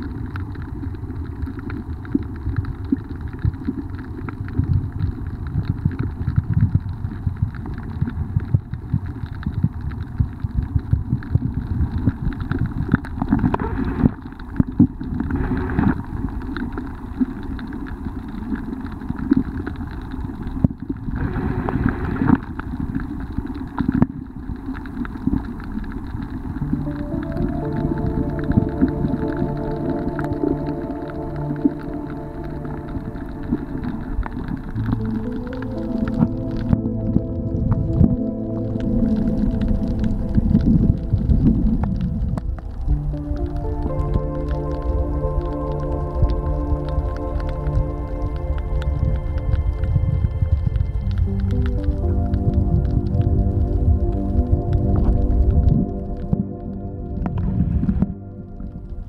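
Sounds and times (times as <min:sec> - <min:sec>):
muffled underwater rumble and sloshing: 0:00.0 - 0:59.0.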